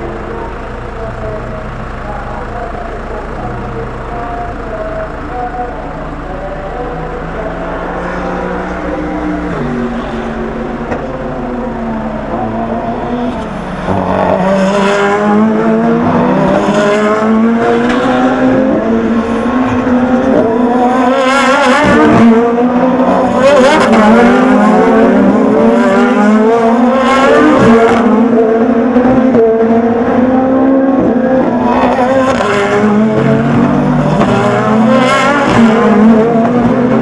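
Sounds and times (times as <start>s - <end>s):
race car engines revving: 0.0s - 37.0s.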